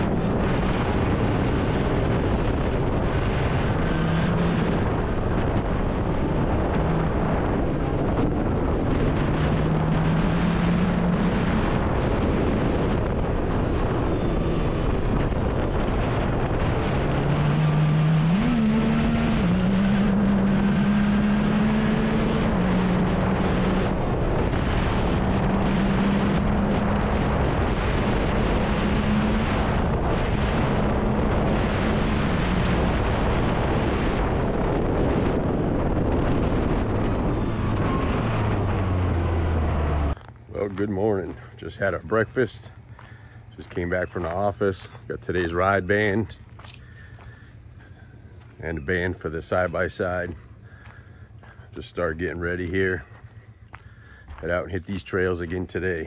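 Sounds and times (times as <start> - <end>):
off-road vehicle engine revving: 0.0 - 56.0
wind and track noise: 0.0 - 56.0.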